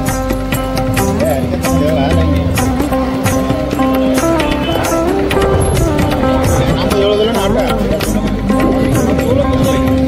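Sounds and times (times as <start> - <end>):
background music: 0.0 - 10.0
steady drum strokes: 0.0 - 10.0.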